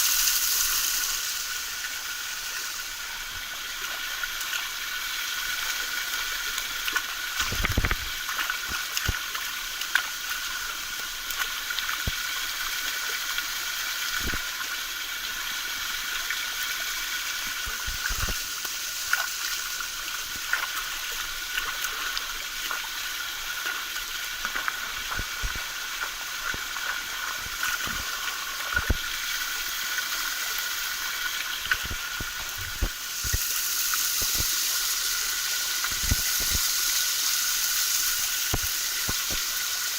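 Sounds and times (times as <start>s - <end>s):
small waterfall pouring: 0.0s - 39.9s.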